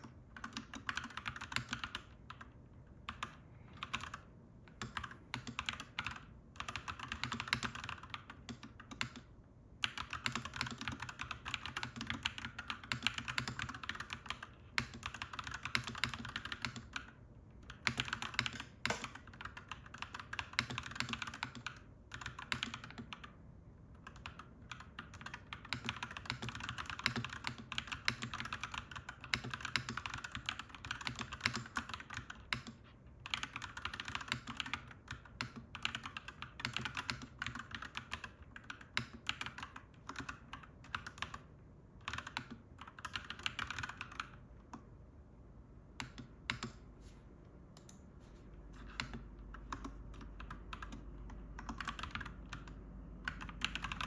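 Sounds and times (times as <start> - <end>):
mechanical keyboard typing: 0.0 - 44.8, 46.0 - 46.8, 48.8 - 54.0
low background hum: 0.0 - 54.0.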